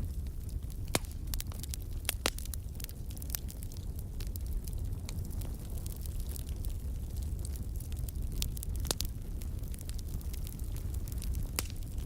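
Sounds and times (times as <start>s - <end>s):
fire popping: 0.0s - 12.0s
wood fire crackling: 0.0s - 12.0s.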